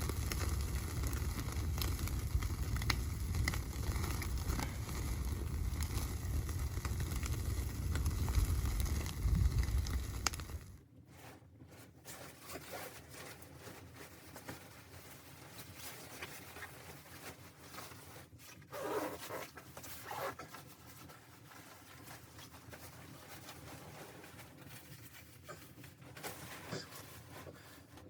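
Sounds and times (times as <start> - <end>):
rustling and handling noises: 0.0 - 28.0.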